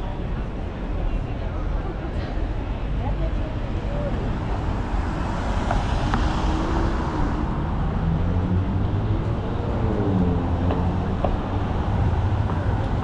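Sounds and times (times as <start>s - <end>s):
rumble of passing cars: 0.0s - 13.0s.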